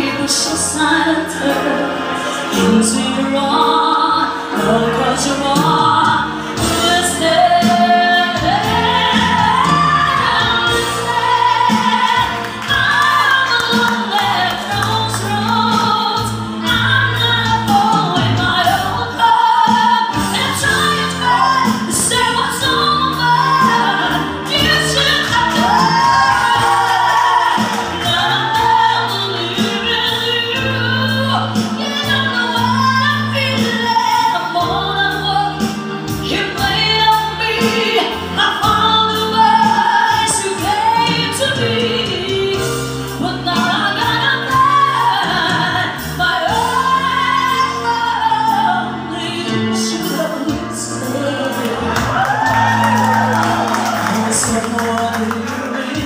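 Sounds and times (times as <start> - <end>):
woman singing into microphone: 0.0 - 56.0
bass guitar: 4.6 - 56.0.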